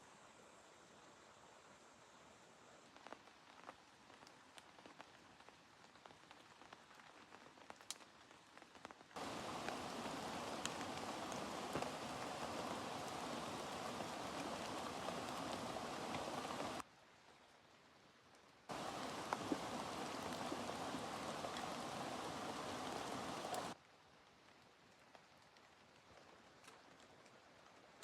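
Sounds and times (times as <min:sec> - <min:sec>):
rain falling: 0:01.2 - 0:28.0
raindrops pattering on a surface: 0:02.8 - 0:28.0.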